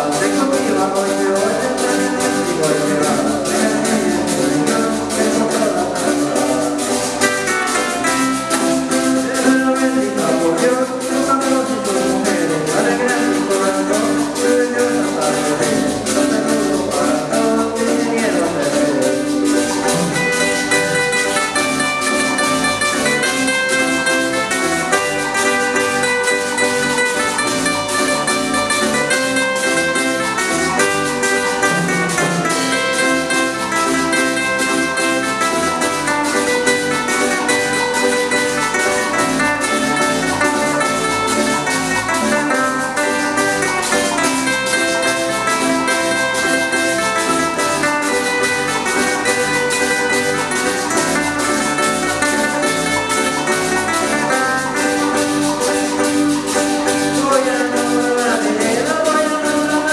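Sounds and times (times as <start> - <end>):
metal scraper percussion: 0.0 - 59.9
plucked string melody: 0.0 - 59.9
strummed guitars: 0.0 - 59.9.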